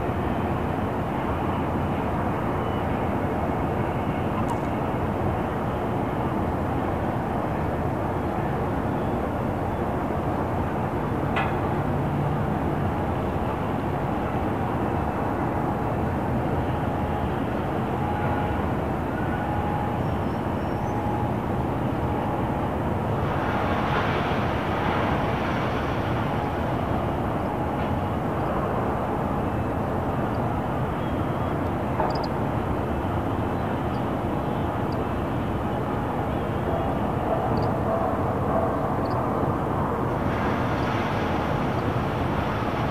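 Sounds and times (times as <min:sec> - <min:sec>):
distant road traffic rumble: 0:00.0 - 0:42.9.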